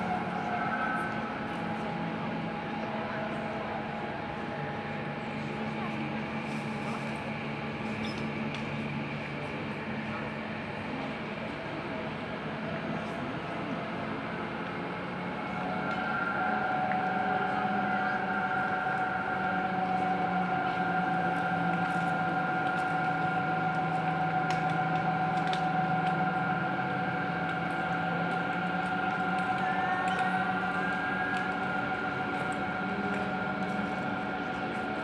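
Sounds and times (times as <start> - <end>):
cable car machinery hum: 0.0 - 35.0.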